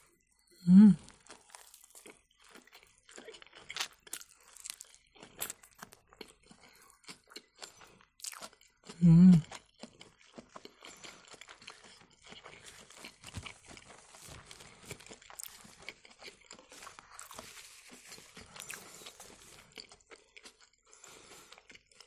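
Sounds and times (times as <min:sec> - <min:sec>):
wet chewing mouth clicks: 0:01.0 - 0:22.0.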